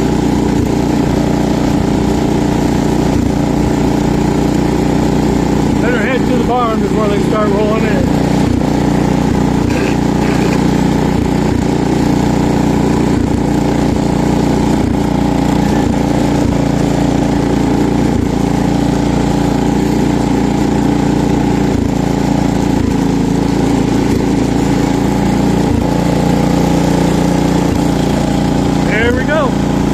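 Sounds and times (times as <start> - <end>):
garden tractor engine running: 0.0 - 29.9.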